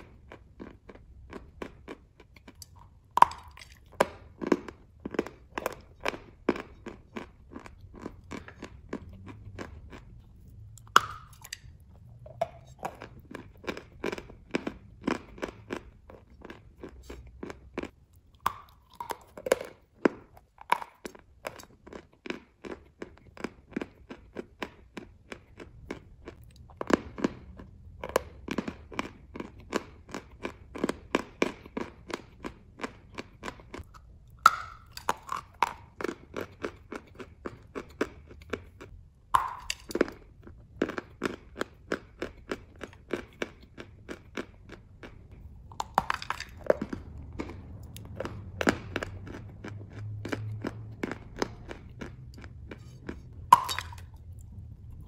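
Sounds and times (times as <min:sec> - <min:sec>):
chewing crunchy chalk: 0:00.0 - 0:55.0.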